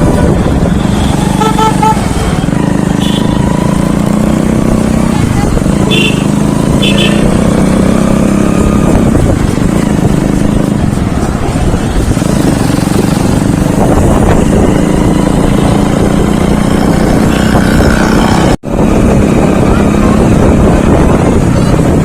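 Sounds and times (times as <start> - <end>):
motor traffic road noise: 0.0 - 22.0.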